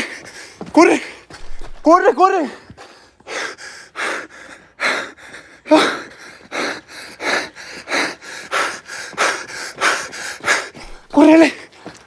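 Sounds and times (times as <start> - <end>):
person panting hard: 0.0 - 1.8, 2.5 - 12.0.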